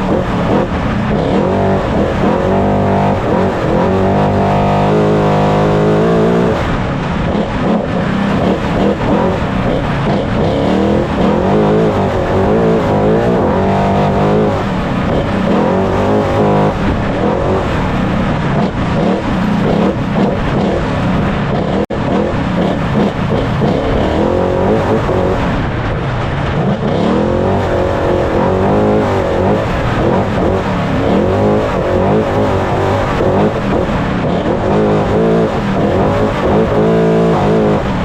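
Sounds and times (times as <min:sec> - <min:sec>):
mechanical and road noise: 0:00.0 - 0:38.0
truck engine revving: 0:00.0 - 0:38.0.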